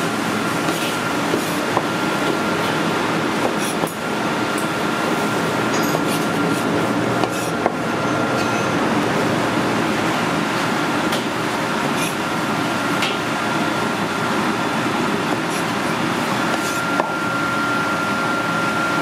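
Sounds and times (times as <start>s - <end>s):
machine hum with high whine: 0.0s - 19.0s.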